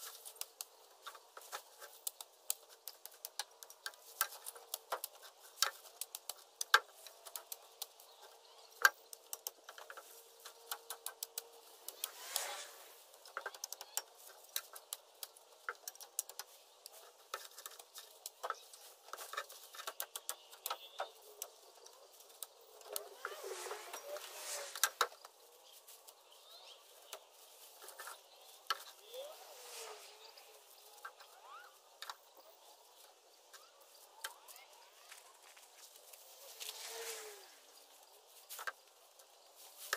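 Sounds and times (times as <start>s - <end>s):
leafy branches rustling: 0.0s - 39.9s.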